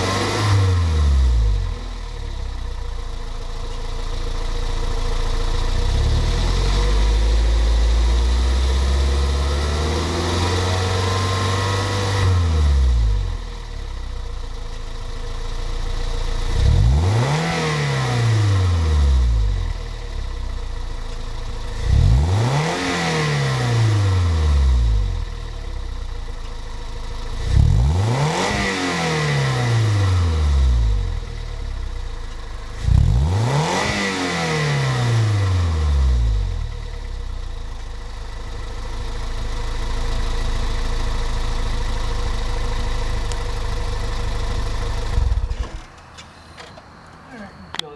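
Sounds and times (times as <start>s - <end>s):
car engine revving and idling: 0.0s - 46.2s.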